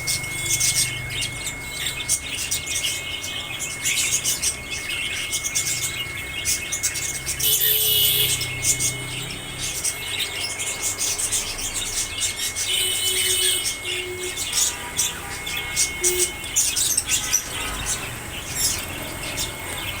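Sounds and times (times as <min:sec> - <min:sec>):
cockatiels chirping: 0:00.0 - 0:20.0
whistled bird calls: 0:00.0 - 0:20.0.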